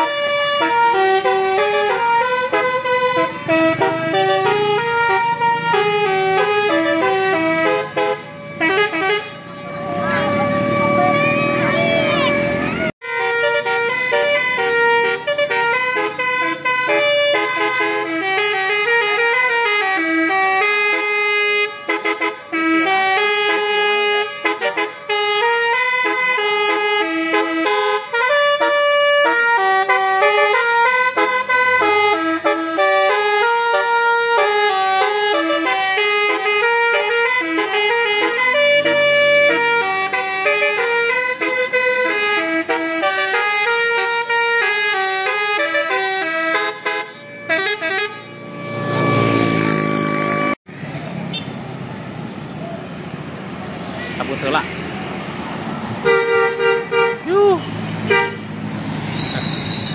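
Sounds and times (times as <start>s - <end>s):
bus musical horn melody: 0.0s - 50.6s, 56.0s - 58.6s.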